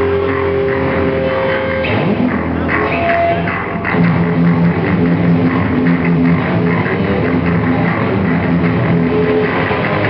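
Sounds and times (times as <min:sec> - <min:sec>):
electric guitars rock jam: 0:00.0 - 0:10.0.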